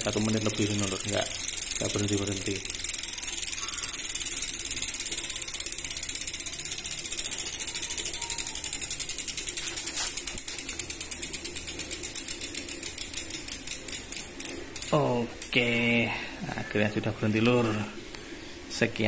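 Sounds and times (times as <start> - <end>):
bicycle freehub ratcheting clicks: 0.0 - 15.9.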